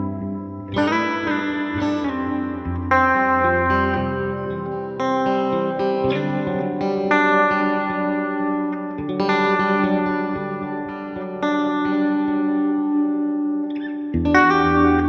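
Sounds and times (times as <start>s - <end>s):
clean electric guitar fingerpicked: 0.0s - 15.0s.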